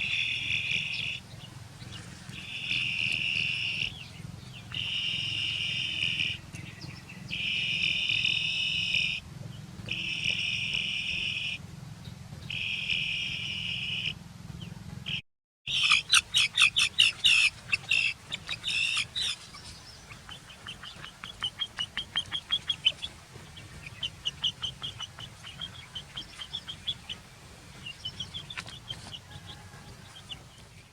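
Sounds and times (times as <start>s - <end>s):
insects buzzing: 0.0s - 3.9s, 4.6s - 9.2s, 9.8s - 11.6s, 12.5s - 14.1s, 15.7s - 30.6s
chick peeping: 0.0s - 9.2s, 9.8s - 11.6s, 12.4s - 30.9s.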